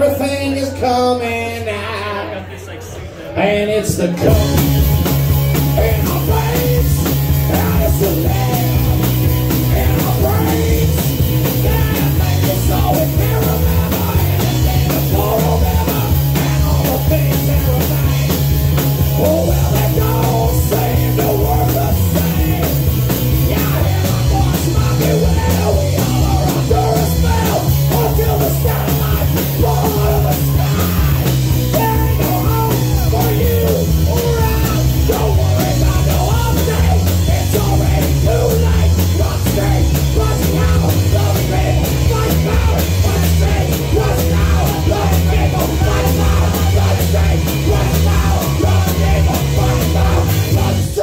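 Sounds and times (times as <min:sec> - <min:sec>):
drum kit: 0:04.2 - 0:51.0
electric bass: 0:04.2 - 0:51.0.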